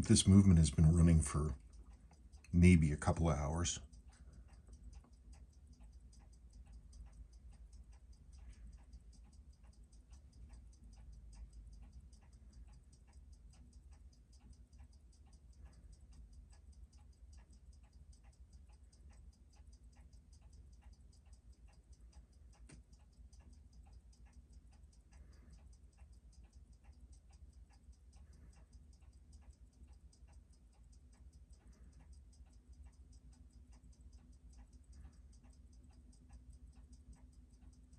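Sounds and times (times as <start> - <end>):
watch ticking: 0.0 - 37.9.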